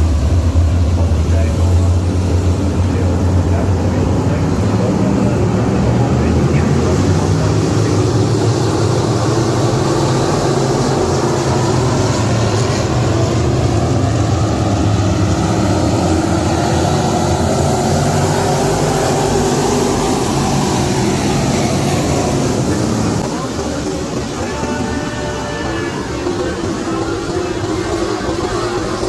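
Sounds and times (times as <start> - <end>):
race car engines running: 0.0 - 29.0.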